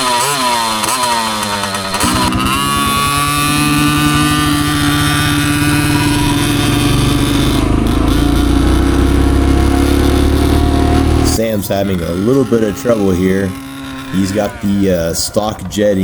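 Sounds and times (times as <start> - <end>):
dirt bike engine revving: 0.0 - 16.0
steady engine note: 1.2 - 16.0.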